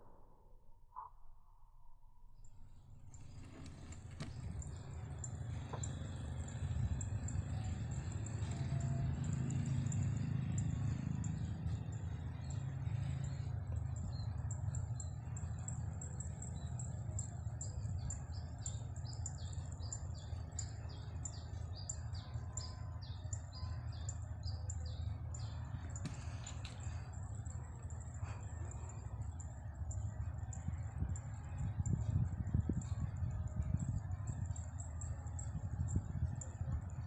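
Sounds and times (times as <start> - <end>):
steady low rumble: 2.7 - 37.0
small bird chirping: 3.1 - 37.0.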